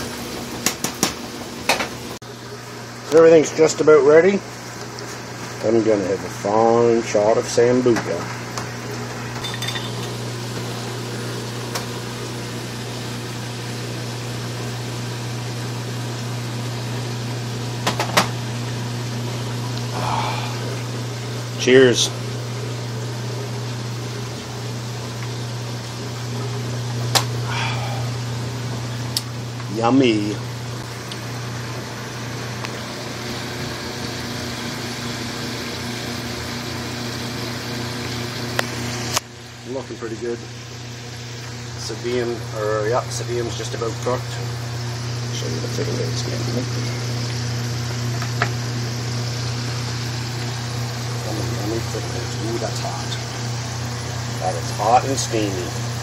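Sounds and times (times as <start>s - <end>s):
kitchen appliance humming: 0.0s - 56.0s
potatoes sizzling in hot oil: 8.3s - 39.6s, 40.4s - 56.0s.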